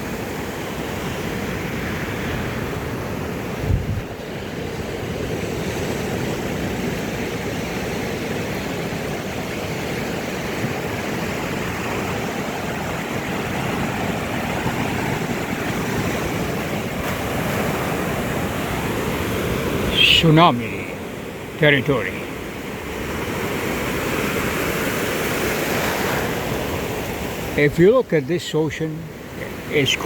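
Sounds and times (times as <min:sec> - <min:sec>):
ocean surf rushing: 0:00.0 - 0:30.0.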